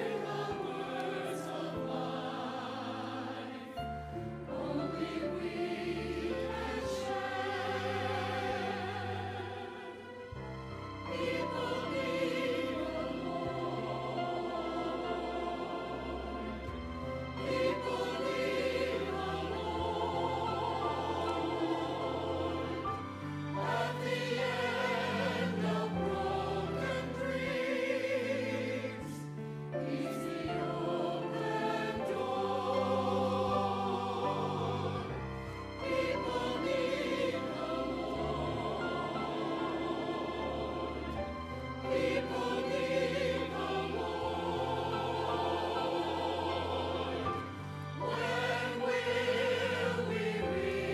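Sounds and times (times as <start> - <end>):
church choir singing: 0.0 - 50.9.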